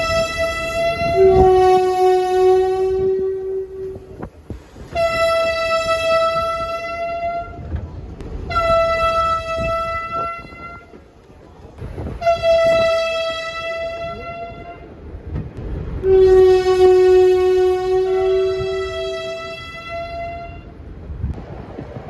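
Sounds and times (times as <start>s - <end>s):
train horn blasts: 0.0s - 7.8s, 8.4s - 11.0s, 12.0s - 15.0s, 16.0s - 20.8s.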